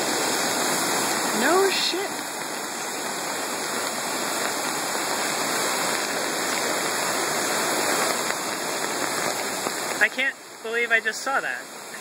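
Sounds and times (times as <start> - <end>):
flooded creek rushing: 0.0 - 12.0.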